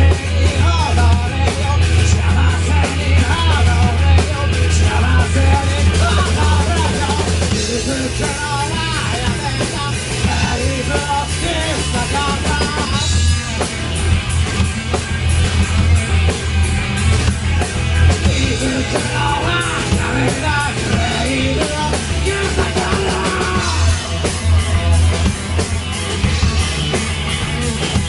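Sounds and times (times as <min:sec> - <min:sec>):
distorted electric guitars: 0:00.0 - 0:28.0
drum kit: 0:00.0 - 0:28.0.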